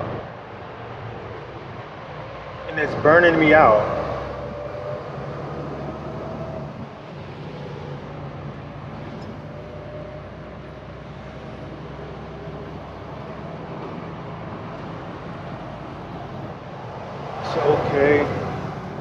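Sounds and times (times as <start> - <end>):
truck diesel engine and road noise: 0.0 - 19.0.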